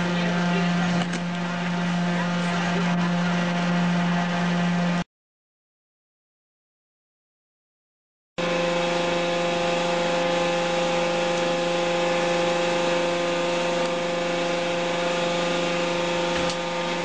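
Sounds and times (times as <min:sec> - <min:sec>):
hydraulic power unit humming: 0:00.0 - 0:05.0, 0:08.4 - 0:17.0.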